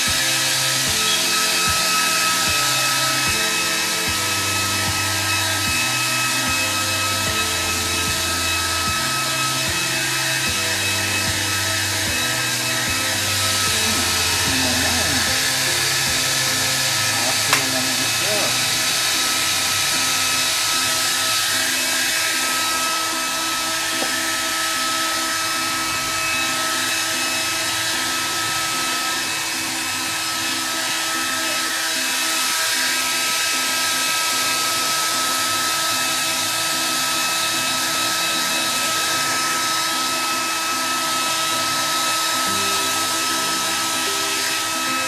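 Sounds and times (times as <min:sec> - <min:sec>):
blow dryer running: 0:00.0 - 0:45.0.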